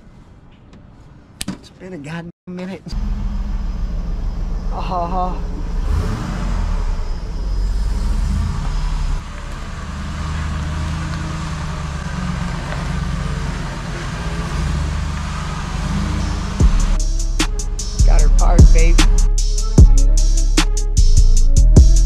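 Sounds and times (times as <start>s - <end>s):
truck engine rumbling: 2.9s - 22.0s.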